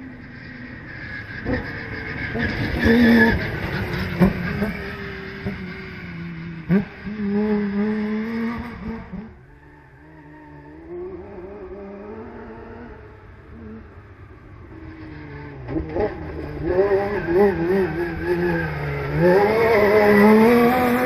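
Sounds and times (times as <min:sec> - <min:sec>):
distant engine drone: 0:00.0 - 0:21.0.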